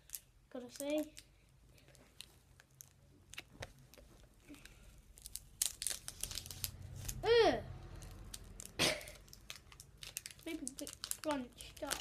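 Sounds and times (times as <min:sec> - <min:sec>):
wrapper tearing and crinkling: 0:00.0 - 0:01.3, 0:02.2 - 0:07.2, 0:07.8 - 0:12.0.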